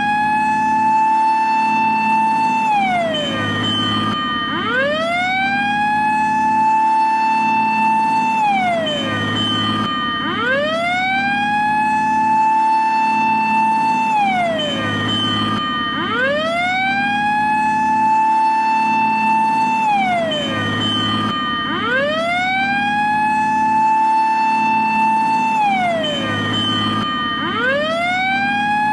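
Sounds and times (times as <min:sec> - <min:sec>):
fire engine siren wailing: 0:00.0 - 0:28.9.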